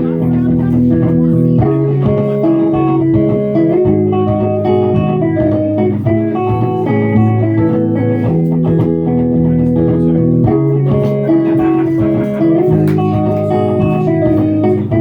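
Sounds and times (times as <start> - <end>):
layered electric guitar music: 0.0 - 15.0
low bass line: 0.0 - 15.0.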